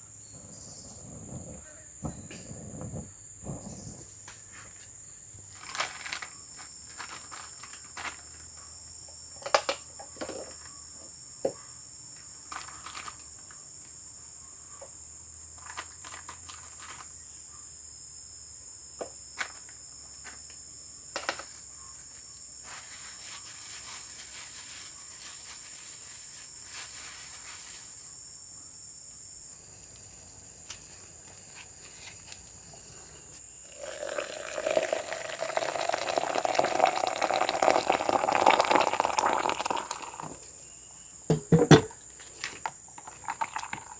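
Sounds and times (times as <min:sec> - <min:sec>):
insects droning: 0:00.0 - 0:43.9.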